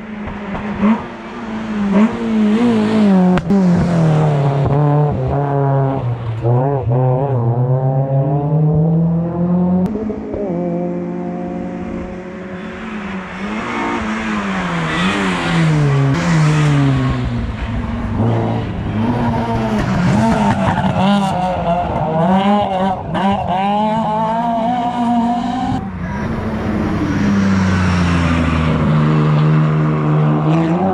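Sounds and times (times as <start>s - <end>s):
tyres rushing on wet road: 0.0s - 8.0s, 11.5s - 23.8s, 24.5s - 30.9s
race car engine revving: 0.2s - 30.9s.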